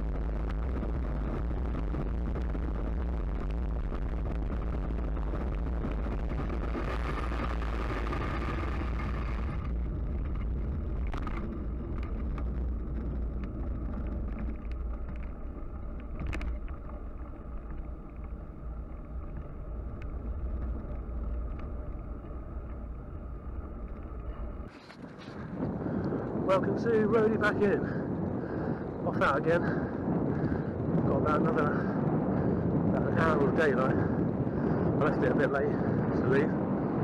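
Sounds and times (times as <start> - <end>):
tyres rumbling on tarmac: 0.0 - 37.0
wind on microphone: 0.0 - 37.0.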